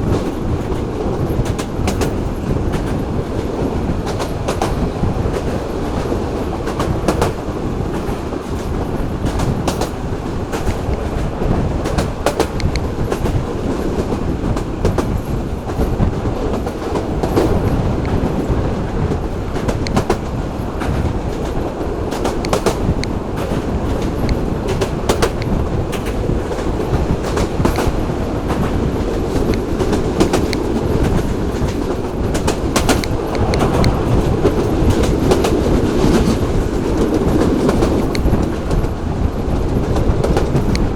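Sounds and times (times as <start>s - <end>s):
train rumbling on track: 0.0s - 40.9s
wheels clacking over rail joints: 0.0s - 40.9s.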